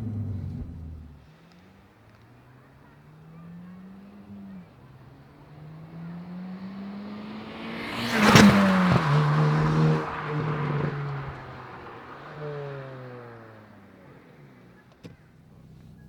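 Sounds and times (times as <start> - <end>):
car accelerating past: 2.4 - 15.9.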